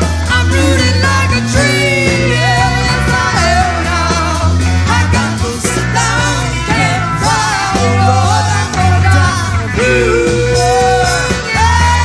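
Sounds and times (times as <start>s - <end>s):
rock band playing live: 0.0s - 12.0s
person singing: 0.1s - 12.0s.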